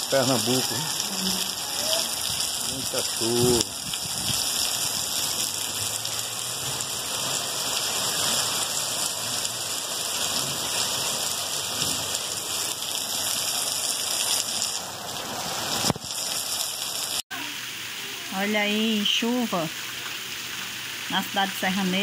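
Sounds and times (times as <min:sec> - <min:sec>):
heavy rain on roofs: 0:00.0 - 0:19.0.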